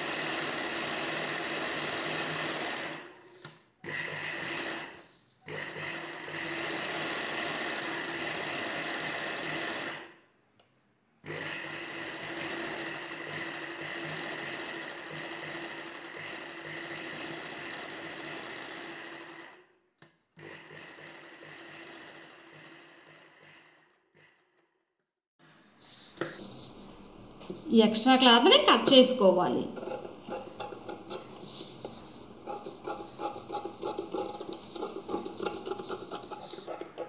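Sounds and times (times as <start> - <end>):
sewing machine stitching: 0.0 - 10.2, 11.2 - 24.8, 29.6 - 37.0.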